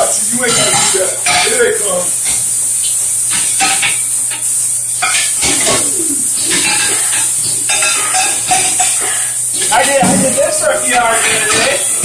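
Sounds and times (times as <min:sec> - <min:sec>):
plates clattering in metal sink: 0:00.0 - 0:12.0
steady high hiss: 0:00.0 - 0:12.0.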